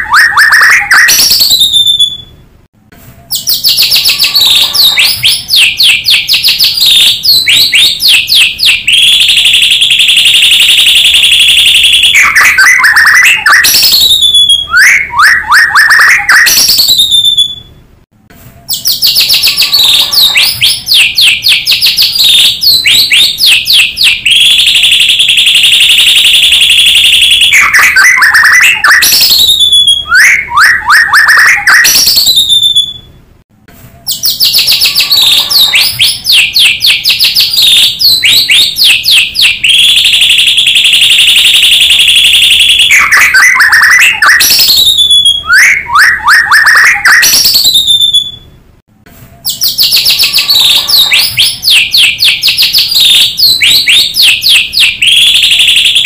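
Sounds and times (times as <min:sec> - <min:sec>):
bird song recording: 0:00.0 - 0:17.9, 0:18.5 - 0:33.2, 0:33.9 - 0:40.2, 0:41.2 - 0:48.6, 0:49.3 - 0:56.0.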